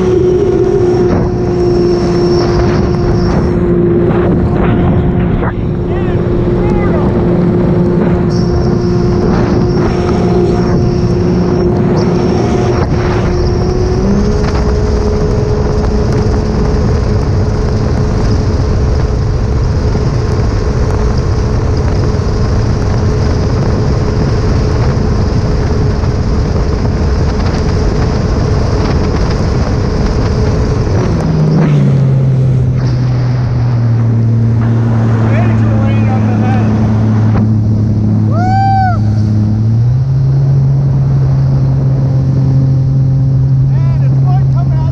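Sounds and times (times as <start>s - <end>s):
jet ski engine running: 0.0s - 44.9s
water noise: 0.0s - 44.9s
wind rushing on microphone: 0.0s - 44.9s.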